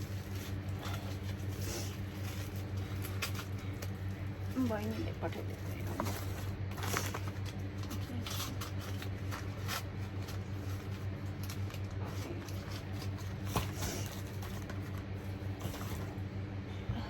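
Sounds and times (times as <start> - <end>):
packaging rustling: 0.0 - 16.2
steady low hum: 0.0 - 17.0.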